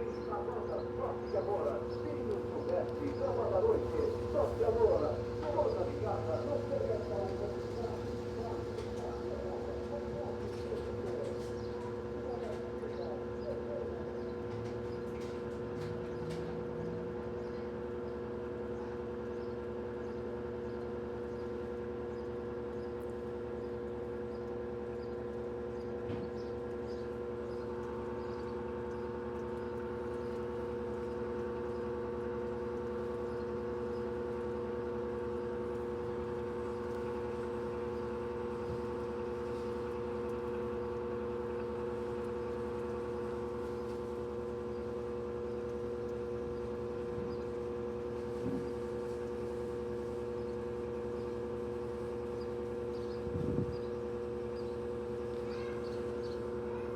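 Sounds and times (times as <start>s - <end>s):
washing machine spinning: 0.0s - 56.9s.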